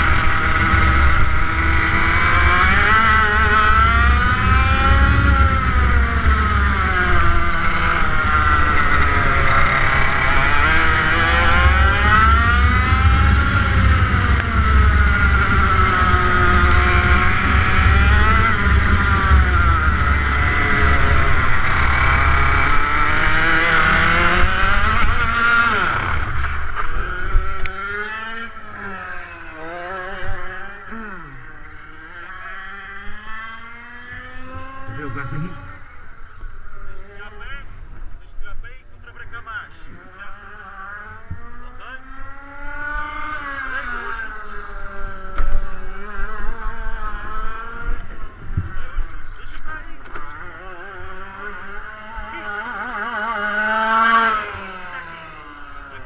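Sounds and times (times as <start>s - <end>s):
kart engine revving: 0.0s - 38.2s, 39.7s - 56.0s.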